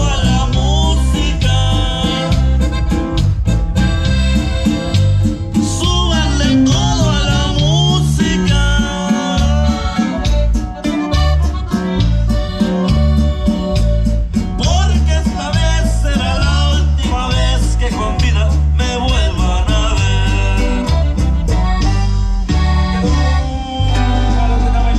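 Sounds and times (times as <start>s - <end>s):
accordion melody: 0.0s - 24.9s
plucked strings: 0.0s - 24.9s
steady bass beat: 0.0s - 24.9s.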